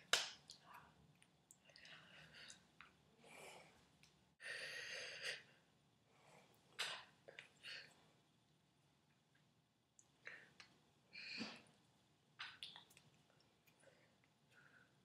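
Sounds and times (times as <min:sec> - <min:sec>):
faint small noises: 0:00.0 - 0:15.0.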